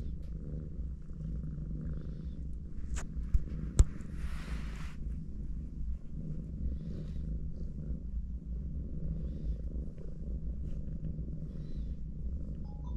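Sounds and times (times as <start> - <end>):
cats purring: 0.0 - 12.9.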